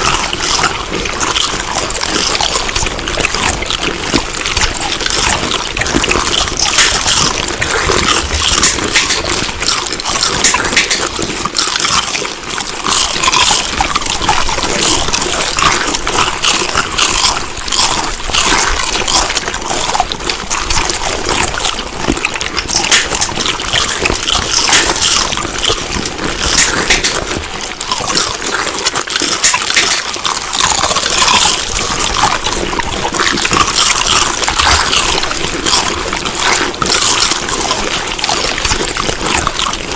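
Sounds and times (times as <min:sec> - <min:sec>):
person chewing food wetly: 0:00.0 - 0:39.9.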